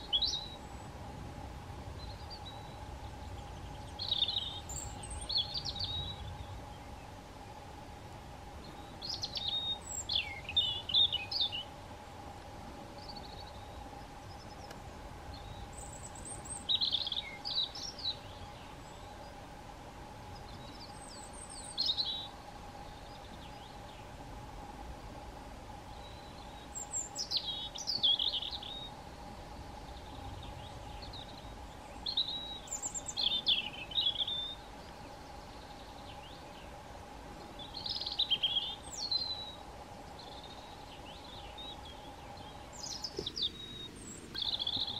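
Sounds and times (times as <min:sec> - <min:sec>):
robin singing: 0:00.0 - 0:01.0, 0:01.9 - 0:07.6, 0:08.5 - 0:11.8, 0:12.9 - 0:19.6, 0:20.2 - 0:24.2, 0:25.8 - 0:44.9.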